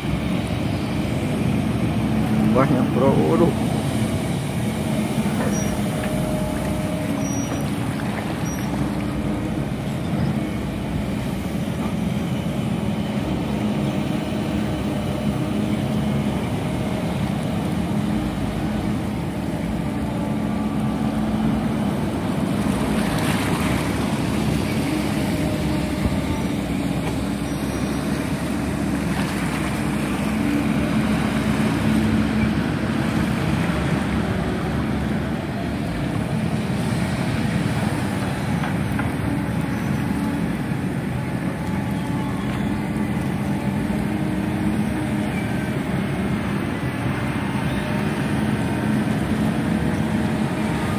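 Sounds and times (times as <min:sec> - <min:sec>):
engine droning steadily: 0:00.0 - 0:50.9.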